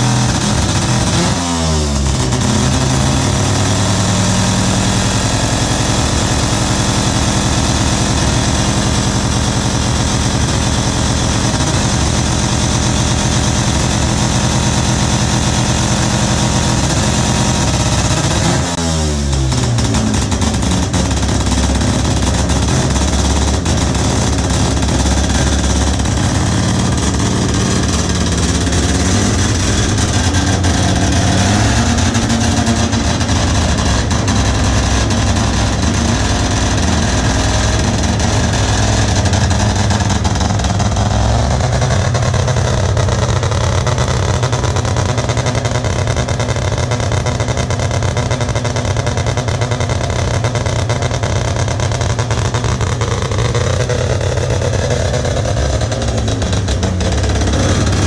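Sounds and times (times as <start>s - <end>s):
rotary engine running: 0.0s - 18.8s, 19.6s - 46.5s, 50.9s - 58.0s.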